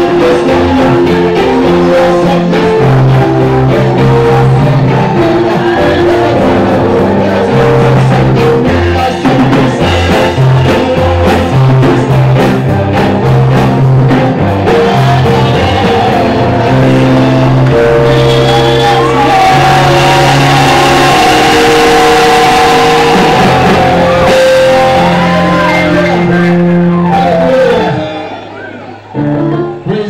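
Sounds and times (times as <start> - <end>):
group singing a carol: 0.0 - 25.4
drum beats: 0.0 - 28.6
bass line: 0.0 - 30.0.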